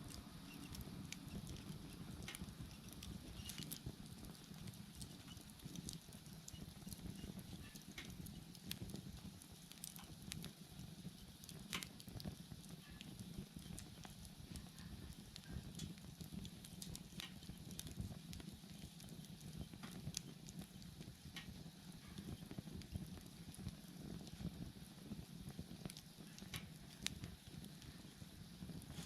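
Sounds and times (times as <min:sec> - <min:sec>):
bonfire crackling and popping: 0:00.0 - 0:29.0
low rumble of flames: 0:00.0 - 0:29.0.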